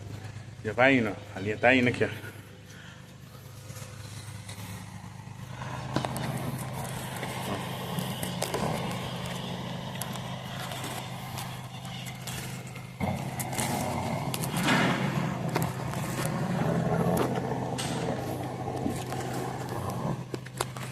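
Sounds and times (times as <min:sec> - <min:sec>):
vacuum cleaner running: 0:03.7 - 0:20.9.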